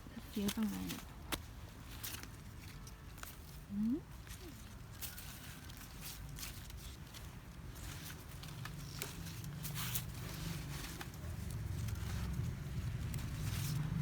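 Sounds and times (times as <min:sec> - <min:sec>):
leaves rustling and crackling: 0:00.1 - 0:14.0.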